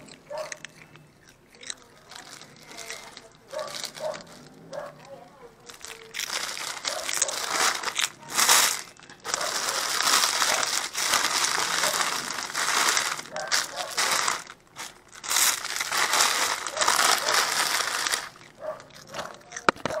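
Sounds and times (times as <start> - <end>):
cats crunching crackers: 0.0 - 20.0.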